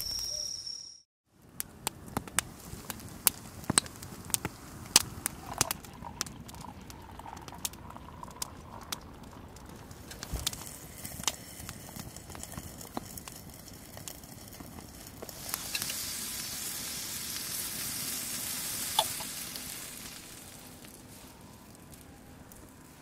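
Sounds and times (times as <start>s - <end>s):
wood fire crackling pops: 1.5s - 6.7s, 7.3s - 22.8s
food sizzling: 2.6s - 21.8s.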